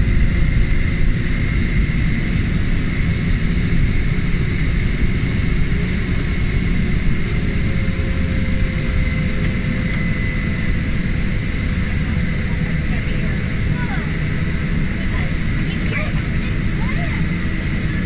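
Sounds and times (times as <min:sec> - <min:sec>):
faint steady whine: 0:00.0 - 0:18.0
plane engine and propeller: 0:00.0 - 0:18.0.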